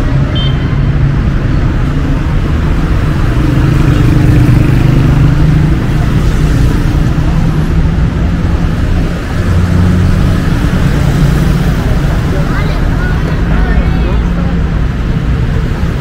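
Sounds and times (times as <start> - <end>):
motor vehicles running: 0.0 - 16.0
road noise: 0.0 - 16.0.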